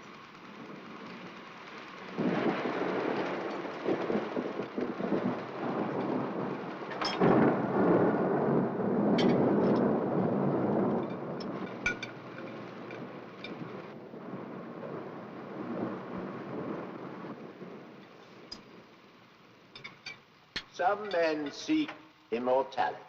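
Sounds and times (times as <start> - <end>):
sharp thunder crack: 0.0 - 18.9
thunder rumbling: 0.0 - 22.2
rain: 0.0 - 23.0.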